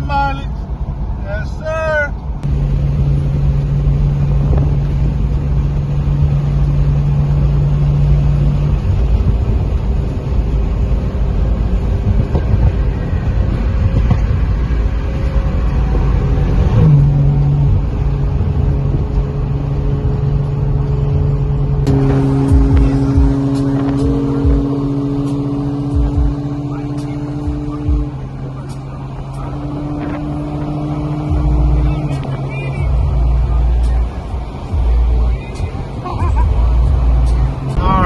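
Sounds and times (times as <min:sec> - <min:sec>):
car engine drone: 0:00.0 - 0:38.0
road rumble: 0:00.0 - 0:38.0.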